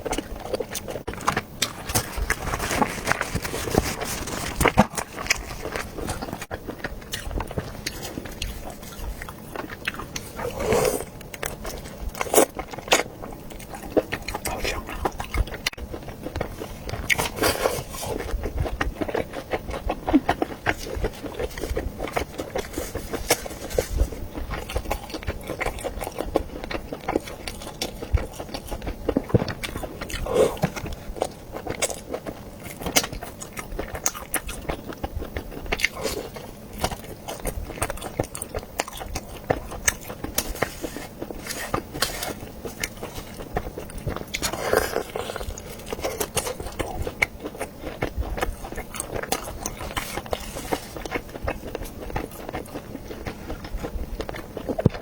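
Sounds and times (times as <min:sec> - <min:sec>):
biting and chewing sausage: 0:00.0 - 0:55.0.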